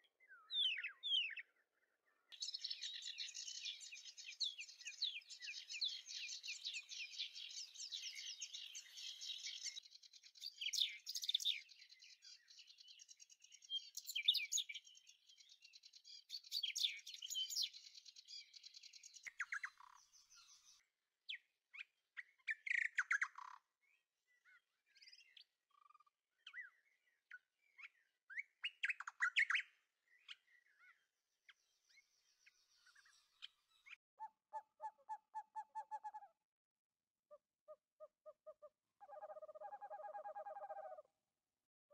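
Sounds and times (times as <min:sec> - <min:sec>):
small birds chirping: 0:00.0 - 0:36.3.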